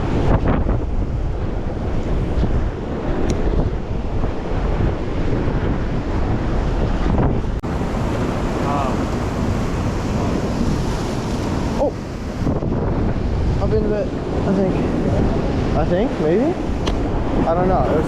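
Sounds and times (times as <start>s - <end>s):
surf washing against rocks: 0.0s - 18.0s
wind buffeting microphone: 0.0s - 18.0s.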